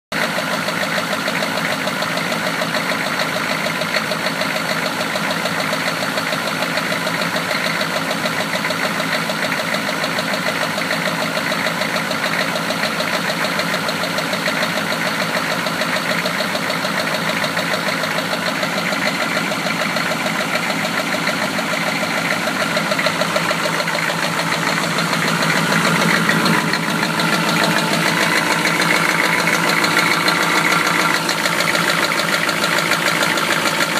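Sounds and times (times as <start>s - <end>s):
car engine idling with knock: 0.1s - 33.9s.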